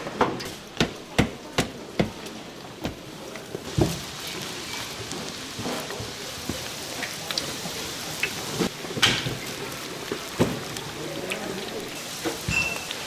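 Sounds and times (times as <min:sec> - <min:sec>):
food deep-frying in oil: 0:00.4 - 0:13.0.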